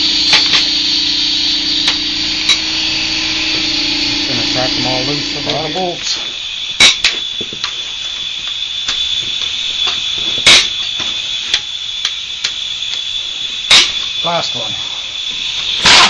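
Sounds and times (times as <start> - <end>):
steady high-pitched whine: 0.0 - 16.0.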